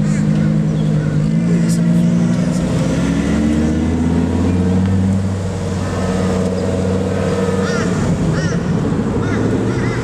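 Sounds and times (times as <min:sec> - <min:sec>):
car engine running at low revs: 0:00.0 - 0:10.0.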